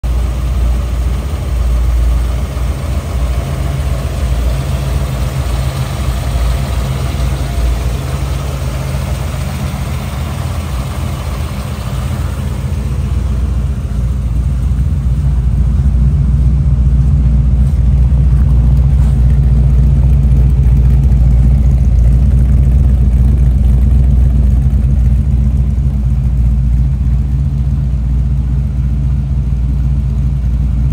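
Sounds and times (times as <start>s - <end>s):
deep exhaust note: 0.0s - 30.9s
engine clatter and whir: 0.0s - 30.9s.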